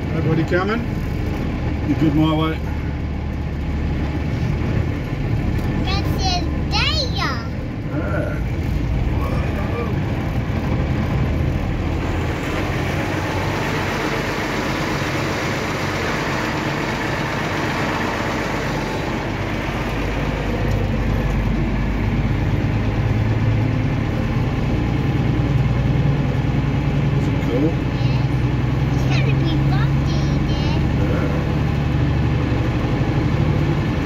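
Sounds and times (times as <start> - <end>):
road and cab noise: 0.0 - 34.0
truck engine running: 0.0 - 34.0.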